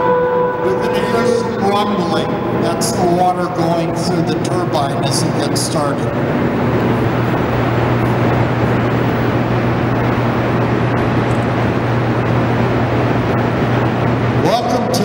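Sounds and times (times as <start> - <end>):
generators rushing drone: 0.0 - 15.0
low electrical hum: 0.0 - 15.0.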